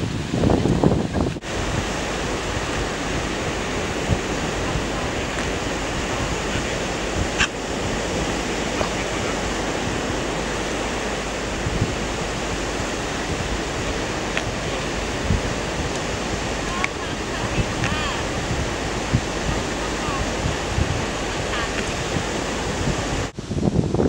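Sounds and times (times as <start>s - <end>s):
surf breaking on beach: 0.0s - 24.0s.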